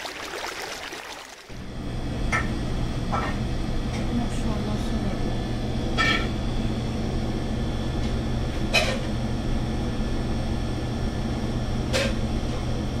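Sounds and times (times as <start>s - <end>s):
kitchen machinery humming: 0.1s - 13.0s.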